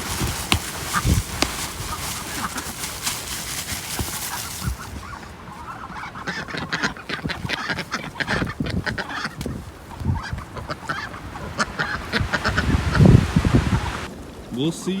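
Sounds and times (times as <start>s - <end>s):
ducks quacking: 0.0s - 14.1s.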